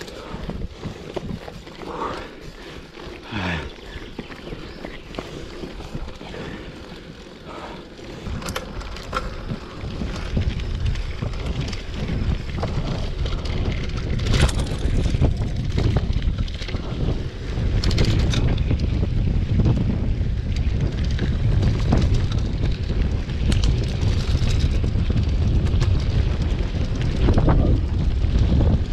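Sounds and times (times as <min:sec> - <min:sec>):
bike rattling clicks over bumps: 0:00.0 - 0:28.9
bike tyre rumble: 0:00.0 - 0:28.9
wind noise on microphone: 0:00.0 - 0:28.9.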